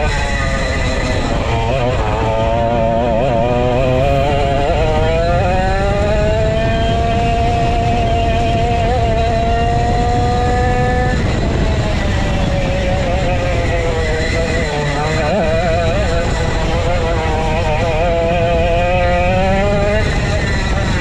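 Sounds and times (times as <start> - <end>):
go-kart engine revving: 0.0 - 21.0.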